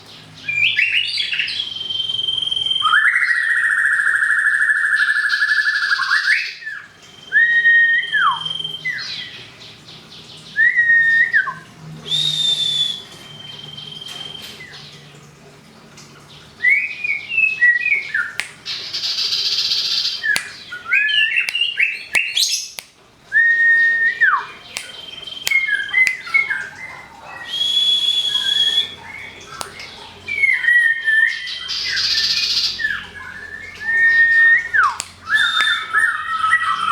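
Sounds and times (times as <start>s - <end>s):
harsh buzzy bird calls: 0.0s - 36.9s
songbirds singing: 0.0s - 36.9s.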